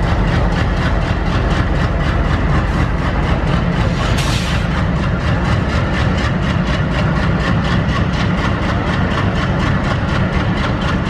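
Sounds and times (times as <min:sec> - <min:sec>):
diesel locomotives running: 0:00.0 - 0:11.0.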